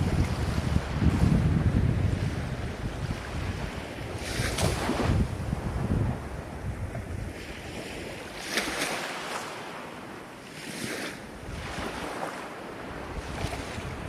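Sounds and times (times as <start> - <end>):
wind buffeting microphone: 0.0 - 9.4, 11.3 - 14.0
ocean waves breaking on shore: 0.0 - 14.0.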